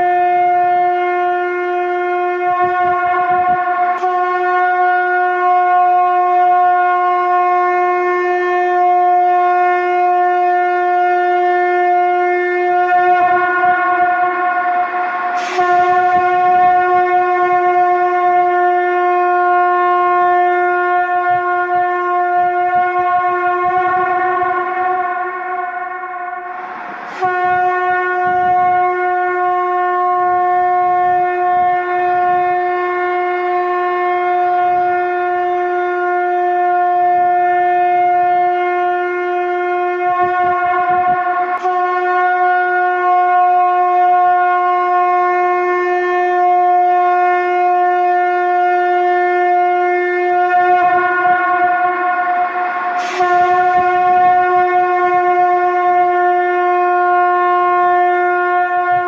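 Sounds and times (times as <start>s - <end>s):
conch shell trumpet blowing: 0.0s - 59.0s.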